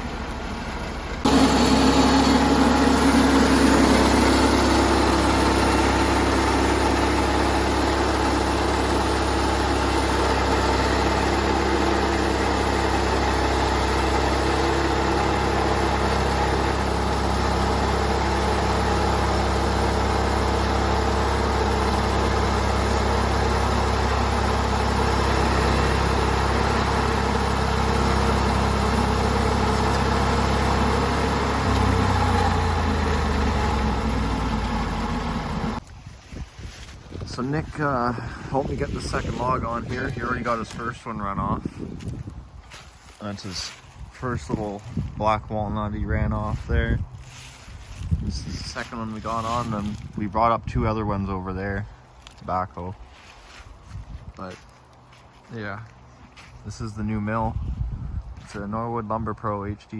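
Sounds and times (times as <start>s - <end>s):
sawmill engine running: 0.0s - 35.9s, 36.7s - 50.6s.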